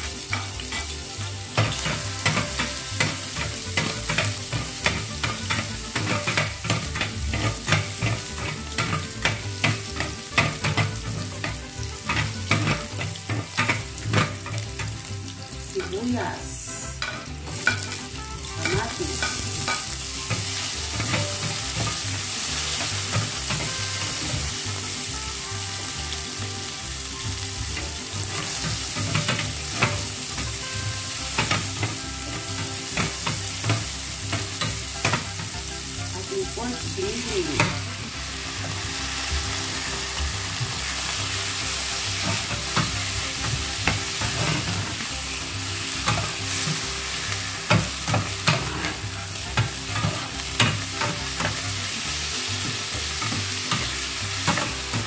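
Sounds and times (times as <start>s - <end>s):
food sizzling in a frying pan: 0.0s - 55.0s
wooden spatula scraping a pan: 0.2s - 15.1s, 16.9s - 55.0s.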